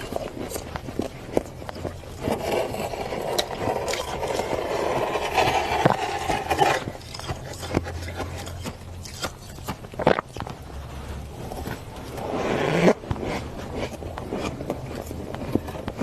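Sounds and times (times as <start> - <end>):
frost crunching and squeaking: 0.0 - 16.0.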